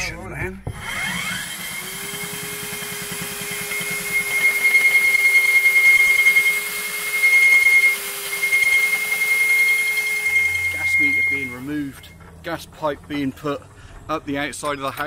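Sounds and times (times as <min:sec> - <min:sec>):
core drill cutting brick: 0:00.7 - 0:14.4.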